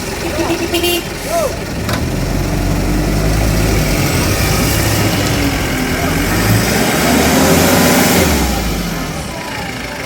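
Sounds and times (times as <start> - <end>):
vehicle engine revving: 0.0 - 10.0.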